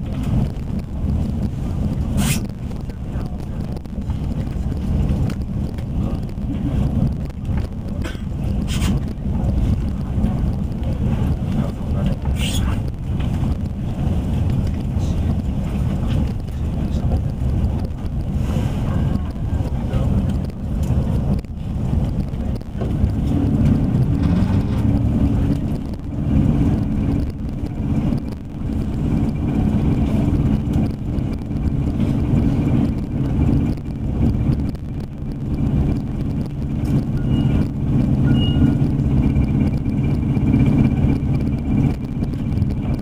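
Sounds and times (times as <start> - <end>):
low steady hum: 0.0 - 43.0
train wheels rumbling on rail: 0.0 - 43.0.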